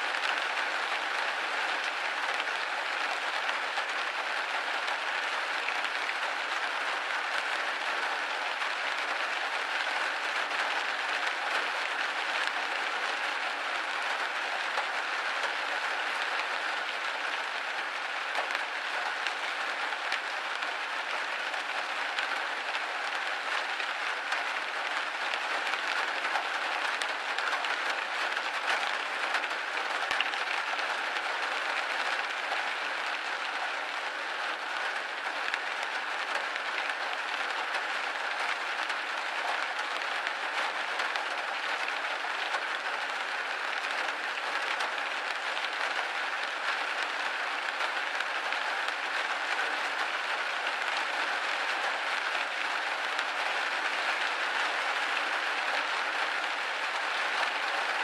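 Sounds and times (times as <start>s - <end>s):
rain pattering on window: 0.0s - 58.0s.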